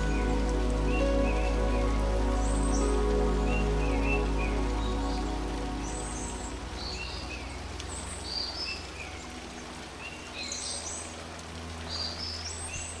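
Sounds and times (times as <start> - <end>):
low rumble: 0.0 - 10.4
songbird singing: 0.0 - 11.2
light rain hiss: 0.0 - 13.0.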